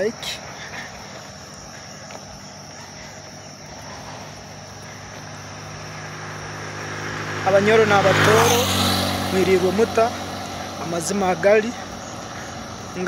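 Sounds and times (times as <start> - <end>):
insect trilling: 0.0 - 13.0
motorcycle engine approaching: 0.0 - 13.0.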